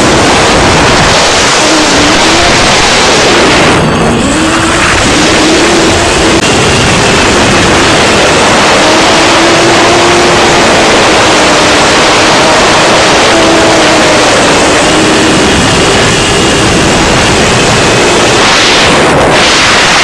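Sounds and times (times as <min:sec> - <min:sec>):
drone motor whine: 0:00.0 - 0:20.0
loud wind rush: 0:00.0 - 0:20.0.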